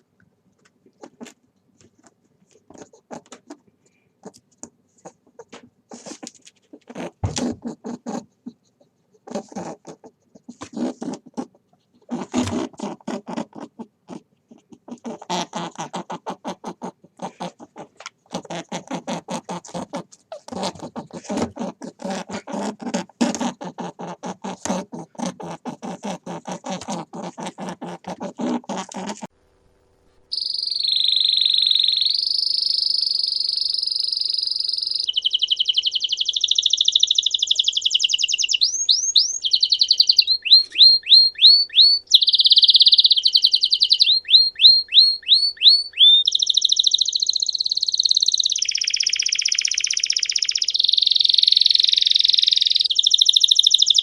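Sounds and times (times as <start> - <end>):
canary singing: 5.0 - 29.3, 30.3 - 54.0.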